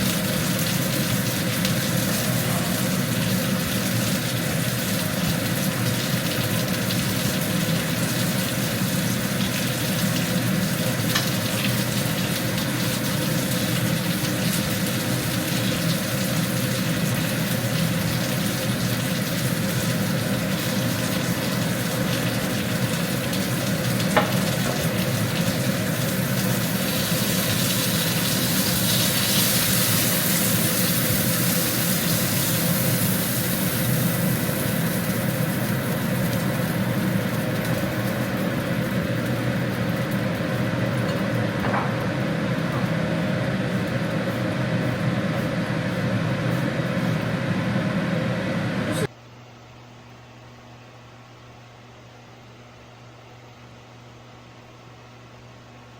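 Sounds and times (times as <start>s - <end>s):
meat sizzling: 0.0s - 48.2s.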